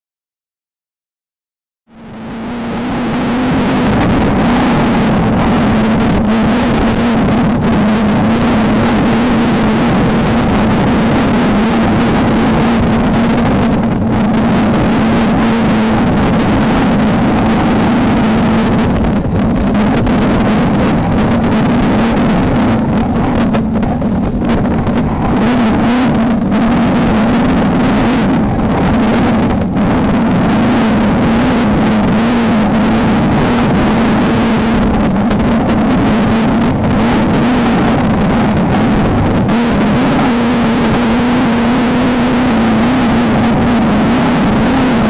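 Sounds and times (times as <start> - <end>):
race car engine running hard: 1.9 - 45.0
loud rushing noise: 2.0 - 45.0.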